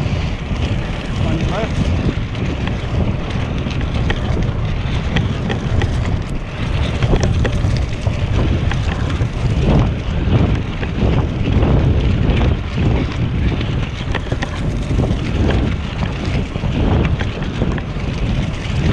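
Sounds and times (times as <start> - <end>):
tyres crackling on gravel: 0.0 - 18.9
wind buffeting microphone: 0.0 - 18.9.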